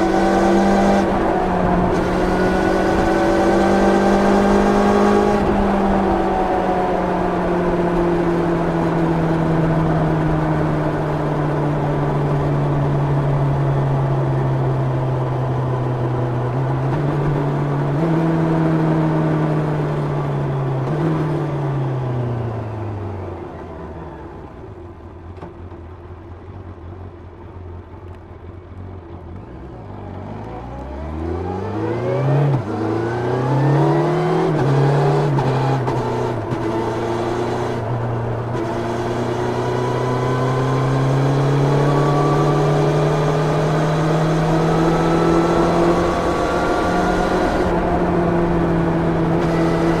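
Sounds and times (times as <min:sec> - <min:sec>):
motorcycle engine revving: 0:00.0 - 0:22.8, 0:29.2 - 0:50.0.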